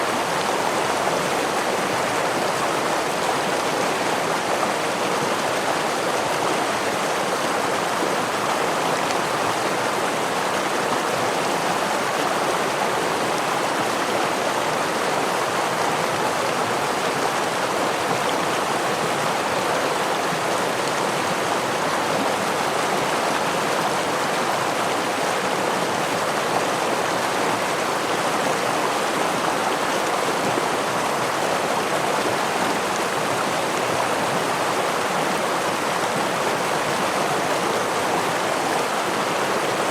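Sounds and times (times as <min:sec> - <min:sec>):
stream rushing over waterfall: 0:00.0 - 0:39.9.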